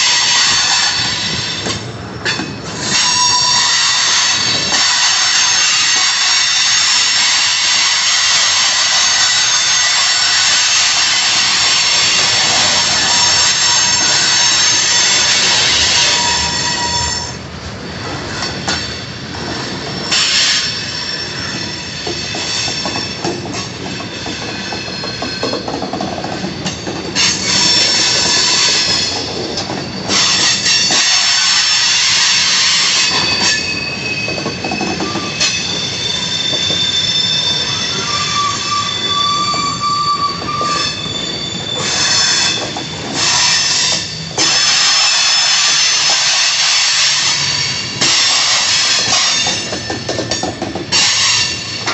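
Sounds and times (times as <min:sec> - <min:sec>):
wheel squeal against rails: 0:00.0 - 0:17.4, 0:18.3 - 0:51.9
freight cars rolling on rails: 0:00.0 - 0:51.9.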